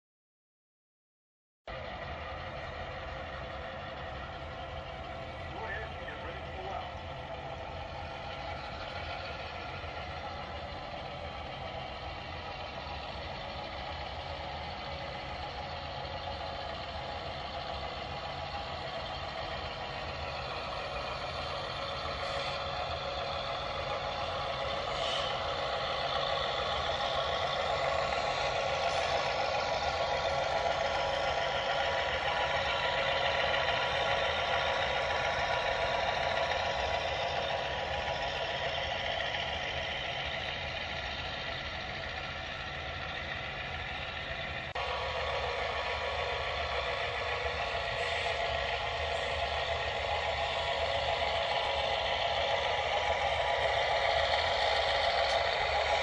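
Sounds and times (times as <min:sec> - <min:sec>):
model locomotive diesel engine sound: 0:01.7 - 0:56.0.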